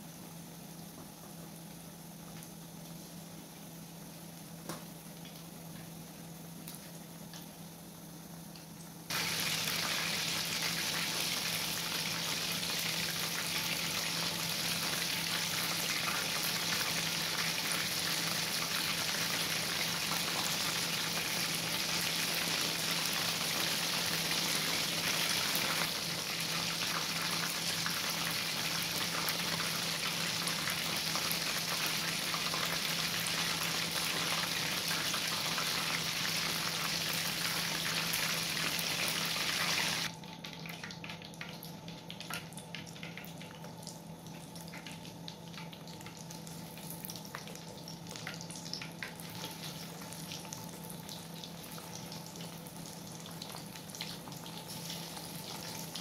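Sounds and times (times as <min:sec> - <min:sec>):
chicken wings deep-frying in oil: 0:00.0 - 0:56.0.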